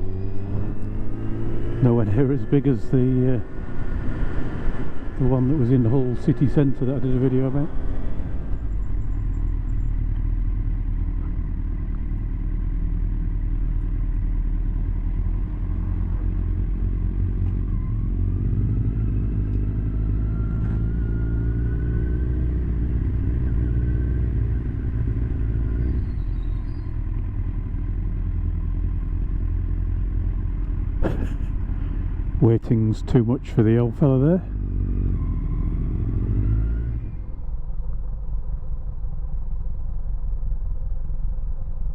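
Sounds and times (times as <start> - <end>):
motorcycle engine running: 0.0 - 36.3, 37.0 - 41.9
road noise: 0.0 - 41.9.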